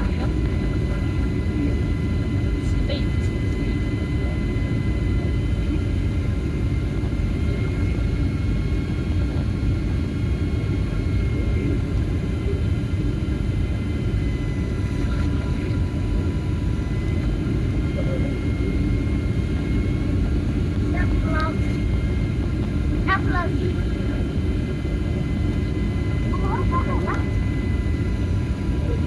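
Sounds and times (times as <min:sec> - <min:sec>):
low rumble of engines and airflow: 0:00.0 - 0:29.0.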